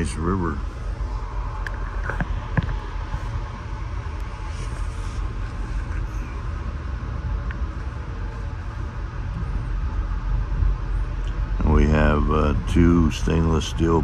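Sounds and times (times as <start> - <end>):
moving train rumble: 0.0 - 14.0.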